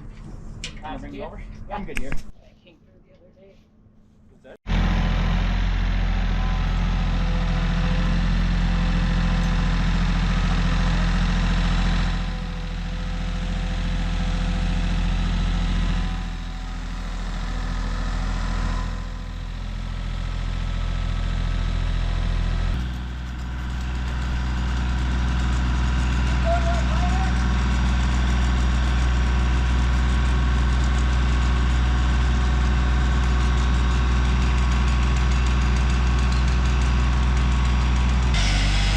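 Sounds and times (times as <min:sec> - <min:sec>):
engine running: 0:04.7 - 0:38.9.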